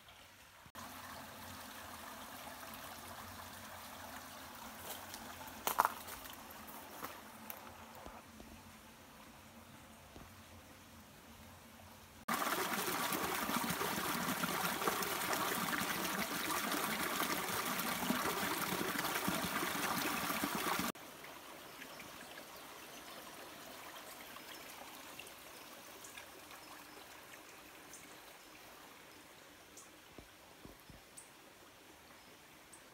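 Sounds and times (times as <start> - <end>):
faint steady water rush: 0.0 - 32.9
stream water running: 0.0 - 32.9.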